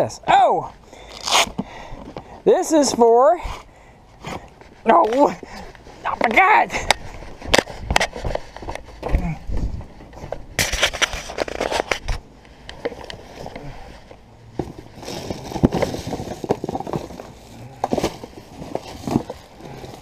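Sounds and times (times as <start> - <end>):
handling rustling: 1.1 - 20.0.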